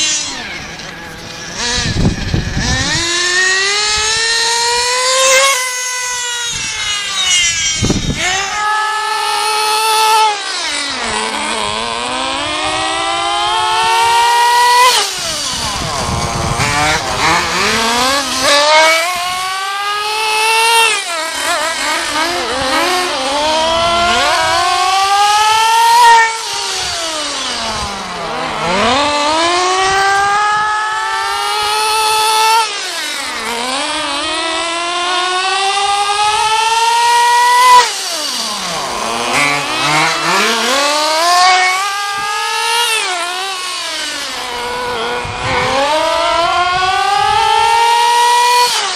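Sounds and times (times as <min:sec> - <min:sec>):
small nitro engine revving: 0:00.0 - 0:48.9.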